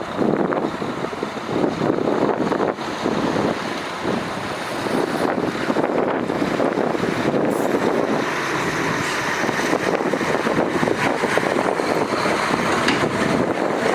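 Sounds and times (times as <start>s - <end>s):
diesel machinery engine running: 0.0s - 13.9s.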